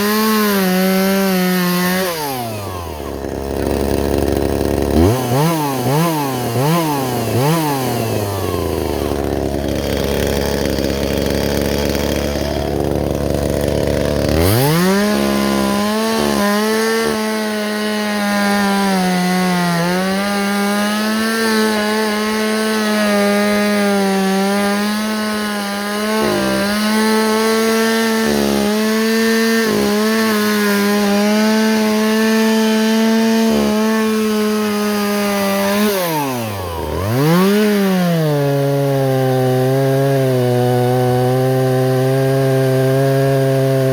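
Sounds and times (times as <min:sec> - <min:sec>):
chainsaw engine revving: 0:00.0 - 0:43.9.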